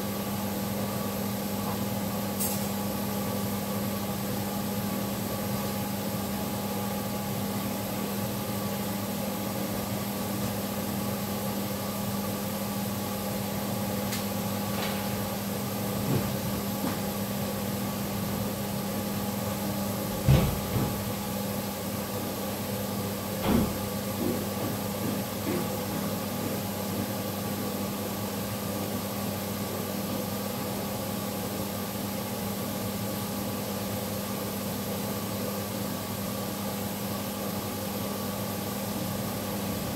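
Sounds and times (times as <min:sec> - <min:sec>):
mechanical hum with hiss: 0:00.0 - 0:39.9.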